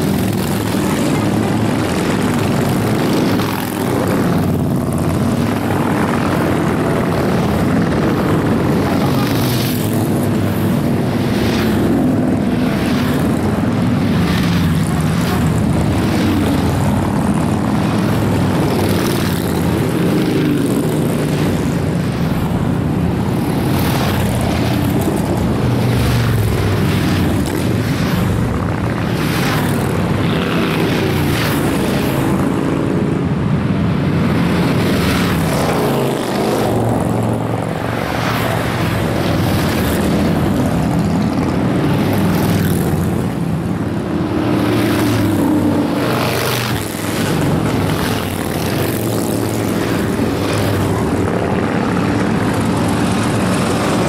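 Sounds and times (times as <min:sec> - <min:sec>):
motorcycles riding past: 0:00.0 - 0:54.0.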